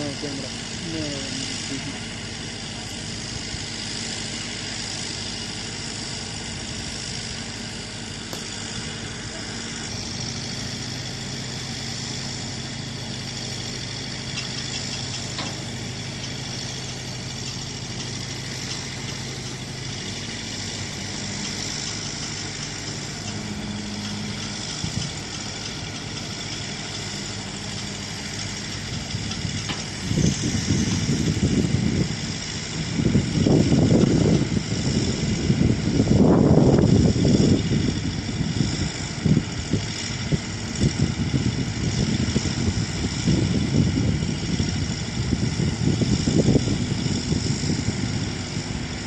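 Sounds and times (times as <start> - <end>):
diesel engine running: 0.0 - 49.0
loud irregular low rumbling: 0.0 - 49.0.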